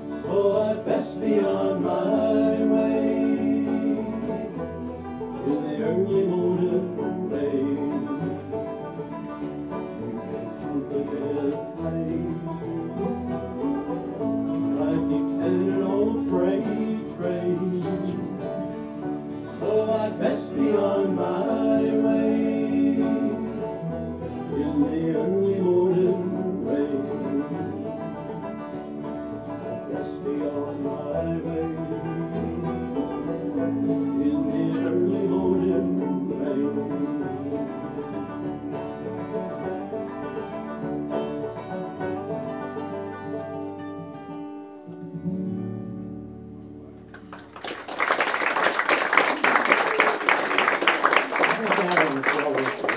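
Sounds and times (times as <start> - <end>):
bluegrass band playing: 0.0 - 52.9.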